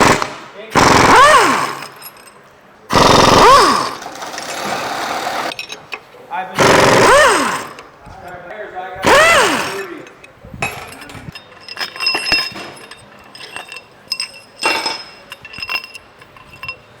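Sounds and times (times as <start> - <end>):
steel parts clinking and ringing: 0.8 - 17.0.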